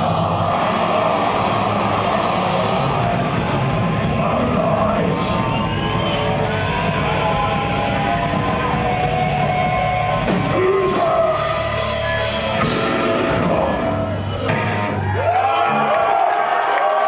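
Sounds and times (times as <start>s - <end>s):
distorted electric guitars: 0.0s - 15.9s
drum kit: 0.0s - 16.0s.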